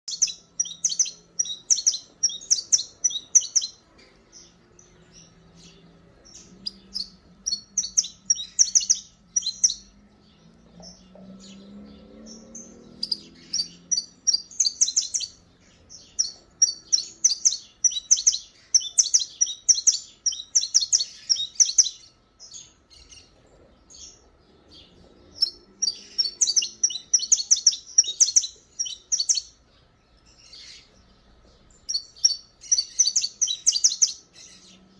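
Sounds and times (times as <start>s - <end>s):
finch singing high chirps: 0.1s - 34.9s.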